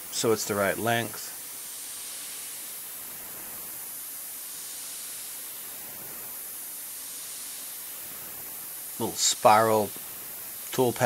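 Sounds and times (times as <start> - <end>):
coolant spray hissing: 0.0 - 11.0.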